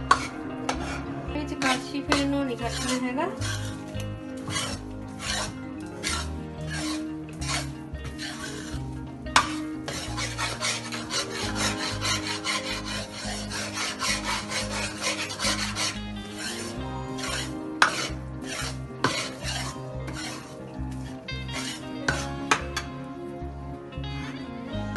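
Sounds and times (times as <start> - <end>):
ladle scraping metal pan: 0.0 - 22.9.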